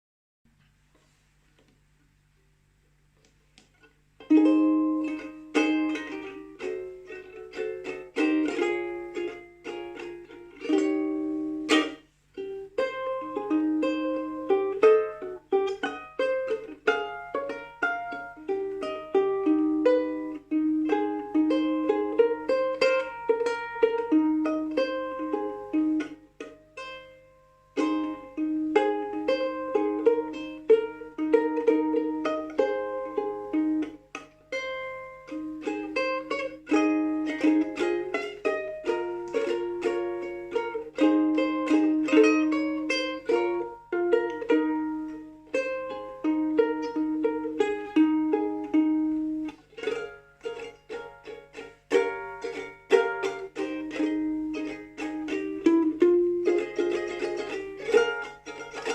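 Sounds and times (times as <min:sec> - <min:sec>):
ukulele plucked notes: 0:03.1 - 0:58.9.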